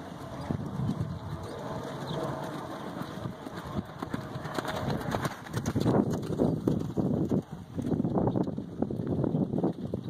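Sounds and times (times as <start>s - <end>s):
wind rumbling on microphone: 0.0s - 10.0s
horse hoofbeats on sand: 0.1s - 10.0s.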